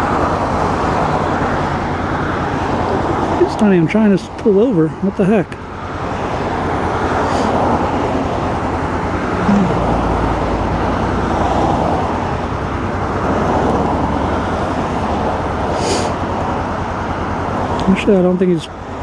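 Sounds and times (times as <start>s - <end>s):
road traffic driving past: 0.0s - 19.0s.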